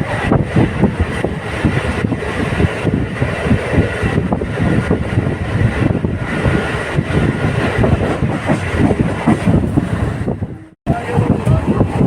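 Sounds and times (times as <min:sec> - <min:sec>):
train rumble on board: 0:00.0 - 0:12.0
wheels knocking on rails: 0:00.2 - 0:09.9.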